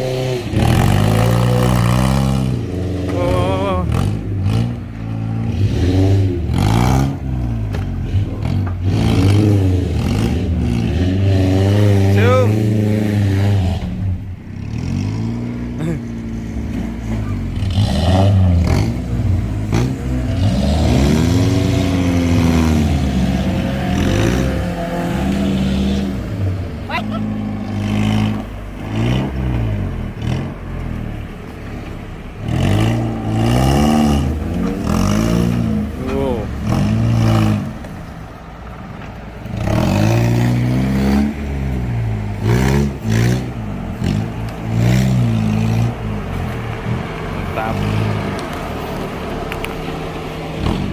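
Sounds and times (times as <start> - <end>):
off-road vehicle engine revving: 0.0 - 50.9.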